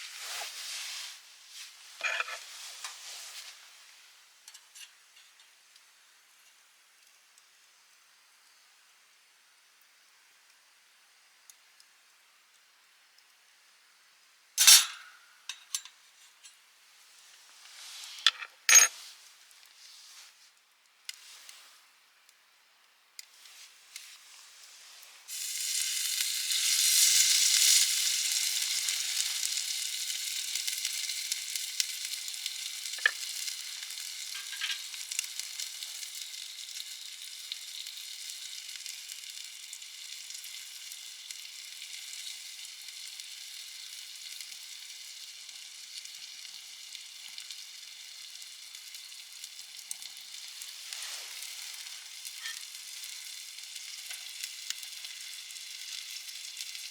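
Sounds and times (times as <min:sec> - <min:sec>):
food sizzling on a grill: 0:00.0 - 0:56.9.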